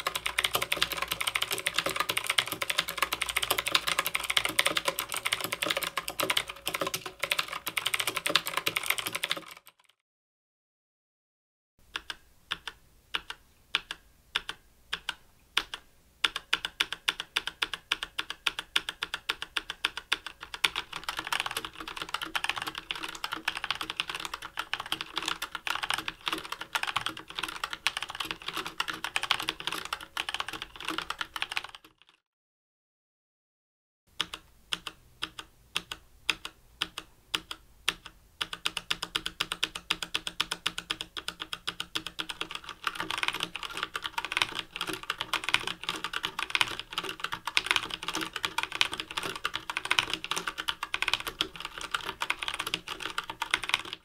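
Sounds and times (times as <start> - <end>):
mechanical keyboard typing: 0.0 - 10.0, 11.9 - 32.2, 34.2 - 54.0.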